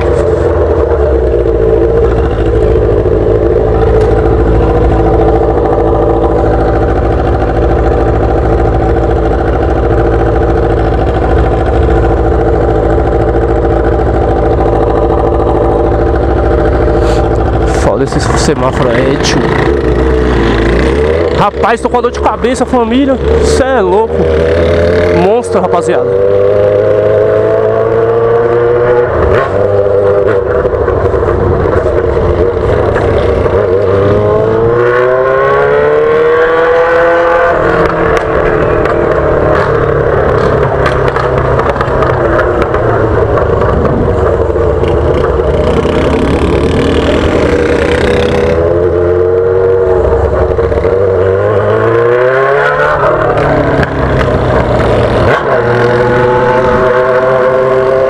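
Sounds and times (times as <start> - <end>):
loud motorcycle engine revving: 0.0 - 58.0.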